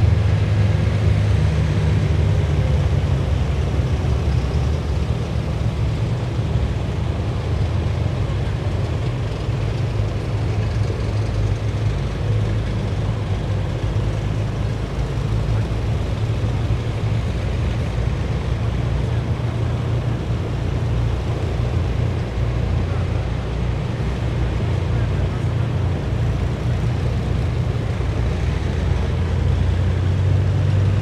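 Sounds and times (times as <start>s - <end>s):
heavy vehicle engines droning: 0.0s - 31.0s
road noise: 0.0s - 31.0s.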